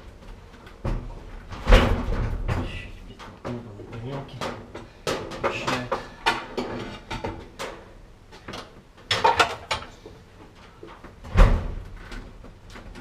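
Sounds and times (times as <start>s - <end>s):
knocks and clunks of handling dryer: 0.8s - 9.9s, 10.9s - 13.0s.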